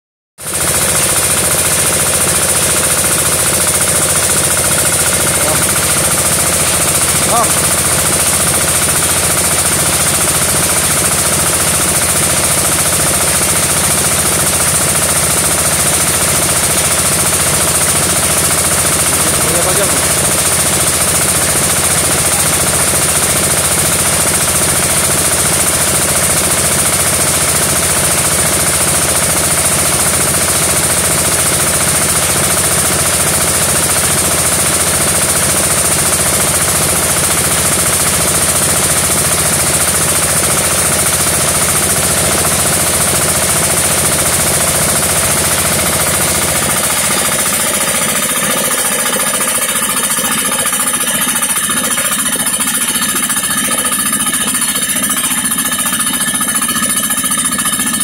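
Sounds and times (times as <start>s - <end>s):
small engine chugging: 0.4s - 58.0s.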